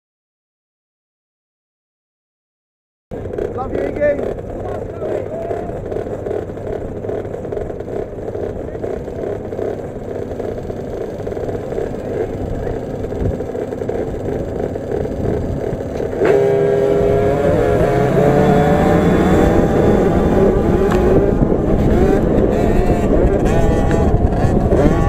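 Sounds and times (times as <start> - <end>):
bike engine at full throttle: 3.1 - 25.0
minibike engines revving: 3.1 - 25.0.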